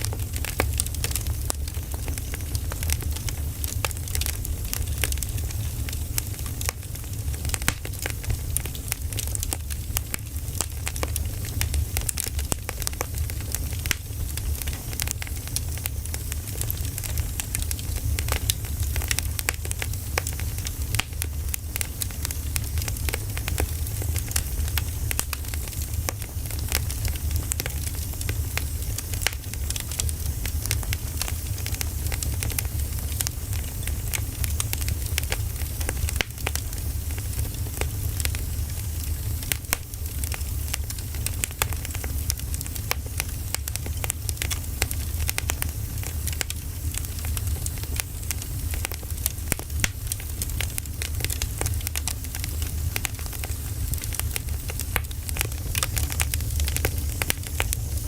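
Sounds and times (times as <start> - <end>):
fire low rumble: 0.0 - 58.0
firewood crackling and popping: 0.0 - 58.0.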